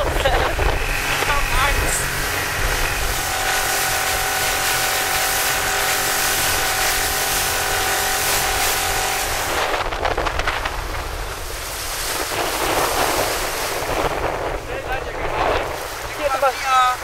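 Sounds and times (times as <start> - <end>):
outboard motor whining: 0.0 - 17.0
rushing wake spray: 0.0 - 17.0
splashing water: 0.0 - 17.0
wind buffeting microphone: 0.0 - 17.0.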